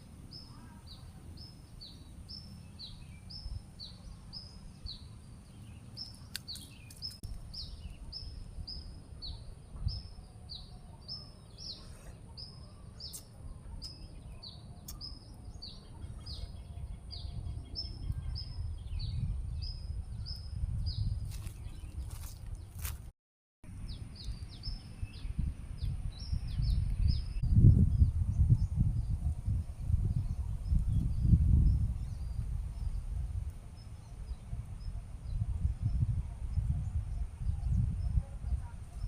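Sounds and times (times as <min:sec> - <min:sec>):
bird chirping: 0:00.0 - 0:22.9, 0:23.7 - 0:33.0.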